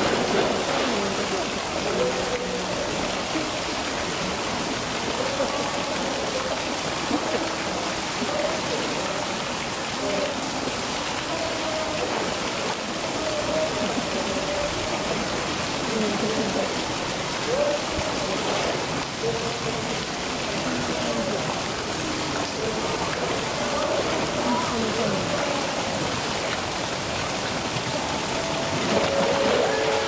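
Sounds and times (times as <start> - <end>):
faint voices: 0.0 - 30.0
rushing water: 0.0 - 30.0.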